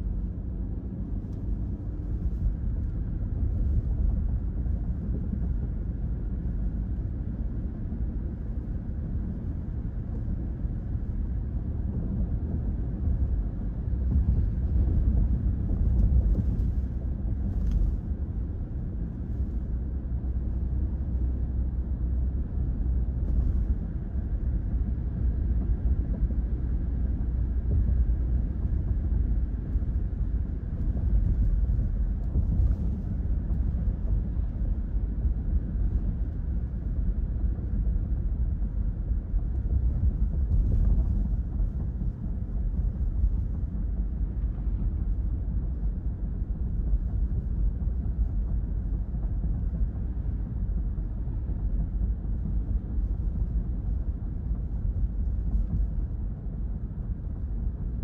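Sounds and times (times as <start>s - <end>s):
road and tyre hum in car: 0.0s - 58.0s.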